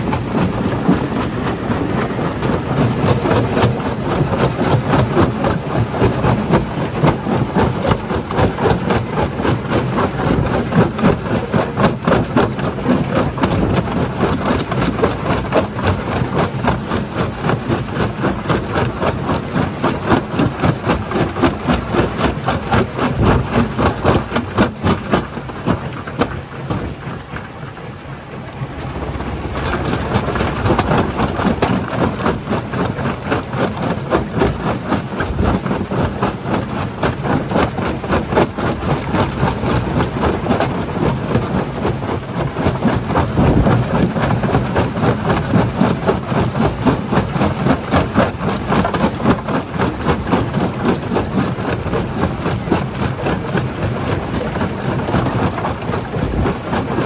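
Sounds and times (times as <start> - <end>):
heavy diesel machinery pulsing: 0.0 - 57.0.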